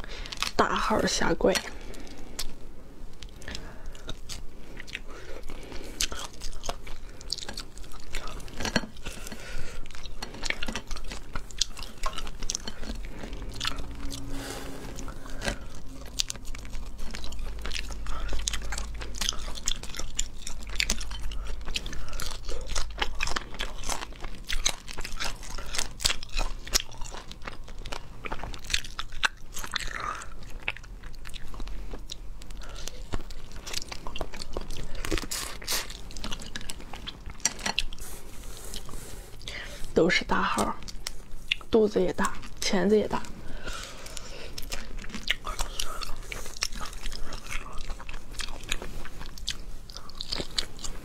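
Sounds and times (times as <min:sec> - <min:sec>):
crunching and chewing: 0:00.0 - 0:51.0.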